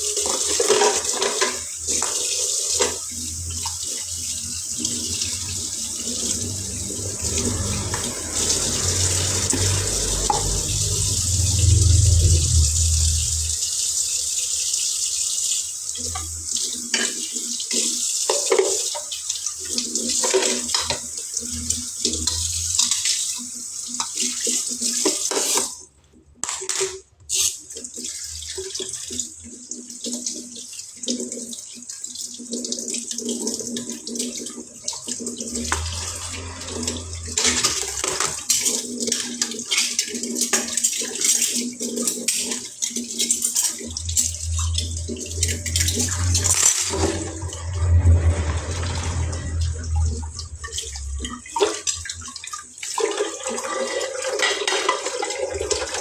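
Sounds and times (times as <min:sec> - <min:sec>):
tap water running into sink: 0:00.0 - 0:25.7, 0:26.4 - 0:56.0.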